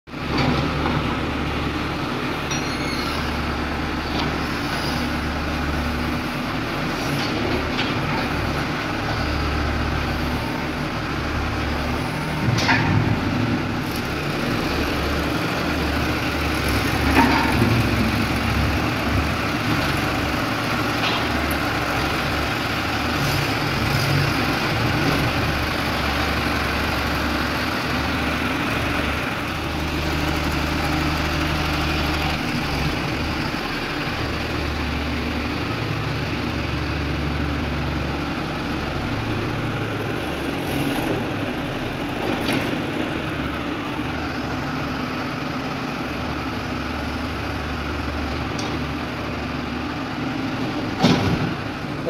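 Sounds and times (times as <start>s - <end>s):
tractor diesel engine running: 0.1s - 52.0s
backhoe digging: 0.2s - 52.0s.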